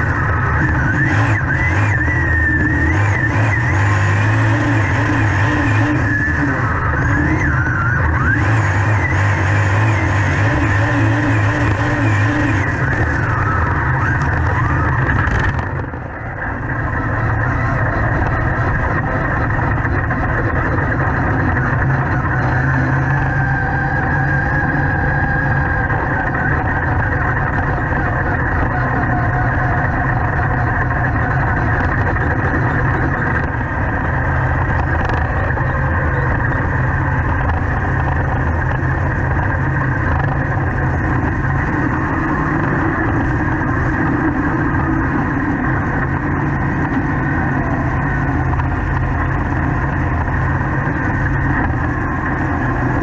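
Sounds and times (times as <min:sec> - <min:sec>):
race car engine idling: 0:00.0 - 0:03.7, 0:10.3 - 0:53.0.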